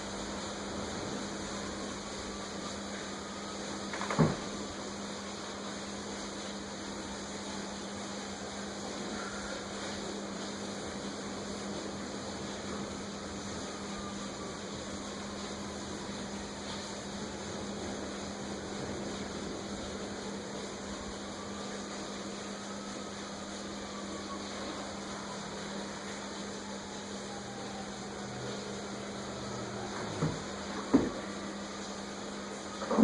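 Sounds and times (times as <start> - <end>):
rain hissing: 0.0 - 33.0.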